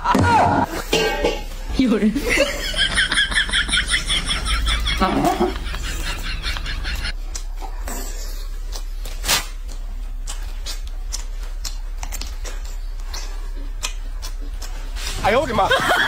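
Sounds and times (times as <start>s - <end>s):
steady low hum: 0.6s - 16.0s.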